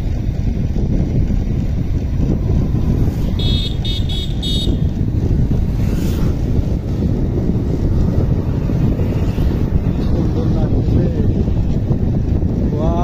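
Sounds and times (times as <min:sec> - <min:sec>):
motorcycle engine and road rumble: 0:00.0 - 0:13.0
wind buffeting microphone: 0:00.0 - 0:13.0.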